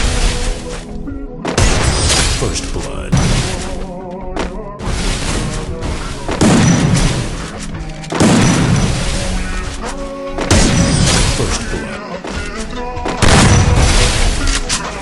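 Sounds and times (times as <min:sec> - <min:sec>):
music with booming hits: 0:00.0 - 0:09.8, 0:10.4 - 0:12.4, 0:13.0 - 0:14.8.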